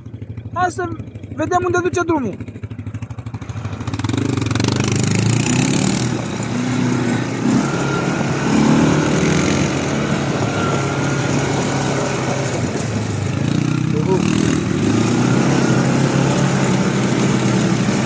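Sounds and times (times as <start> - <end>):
quad bike engine running: 0.0 - 18.0
wind and tyre noise: 2.7 - 18.0.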